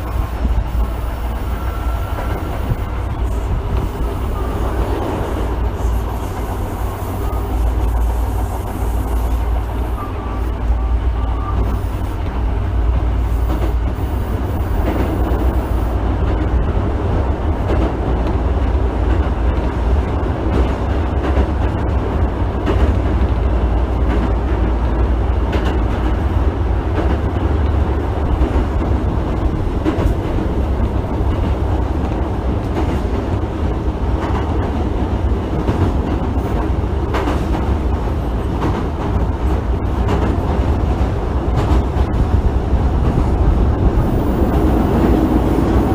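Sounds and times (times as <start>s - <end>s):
rail joint clicks: 0.0s - 45.9s
train wheels rumbling on rail: 0.0s - 45.9s.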